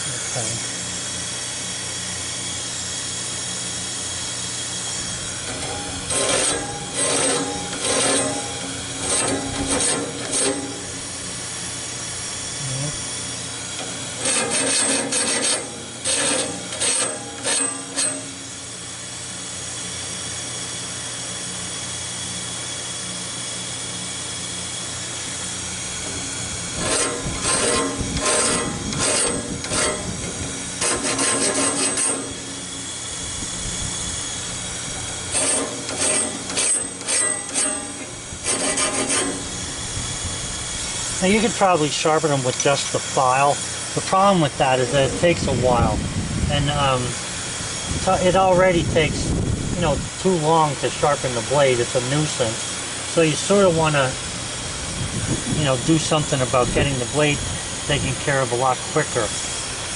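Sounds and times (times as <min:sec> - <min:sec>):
grinding strokes on saw blade: 0:00.0 - 0:21.3, 0:21.9 - 0:59.9
air tool hissing: 0:00.0 - 0:21.5, 0:22.7 - 0:59.9.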